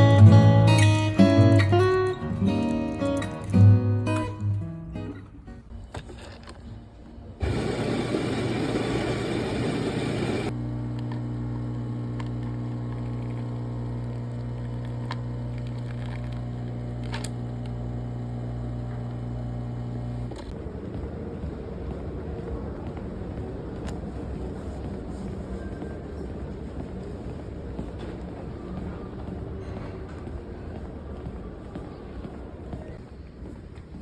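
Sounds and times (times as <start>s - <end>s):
low mechanical hum: 5.9s - 34.0s.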